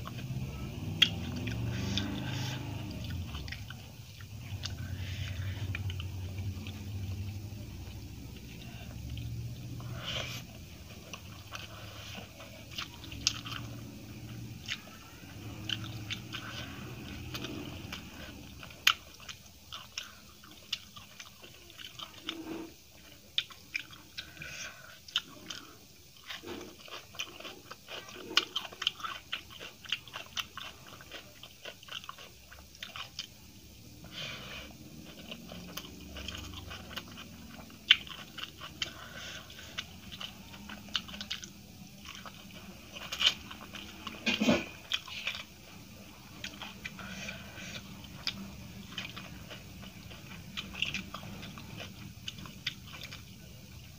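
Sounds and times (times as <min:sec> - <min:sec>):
chewing with wet mouth smacks: 0:00.0 - 0:33.5, 0:34.1 - 0:53.8
food crunching: 0:00.0 - 0:53.9.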